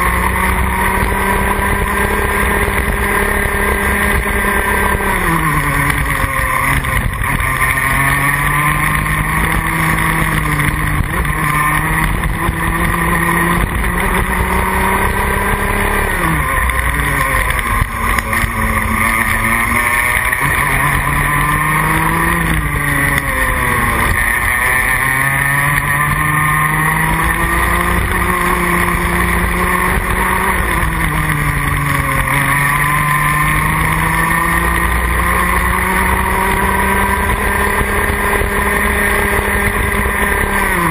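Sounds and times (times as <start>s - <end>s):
kart engine racing: 0.0s - 40.9s.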